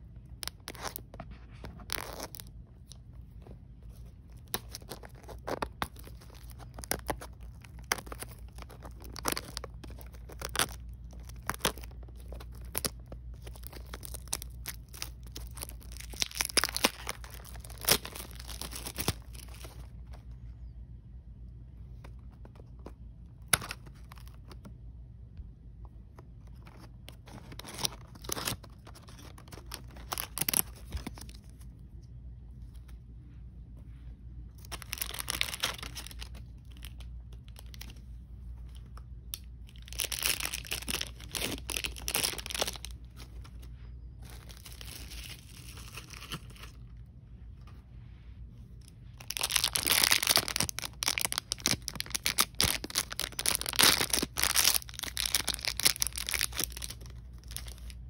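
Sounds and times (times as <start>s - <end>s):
packaging crinkling and tearing: 0.1s - 20.2s, 22.0s - 24.7s, 26.4s - 31.7s, 34.6s - 47.0s, 48.8s - 58.0s.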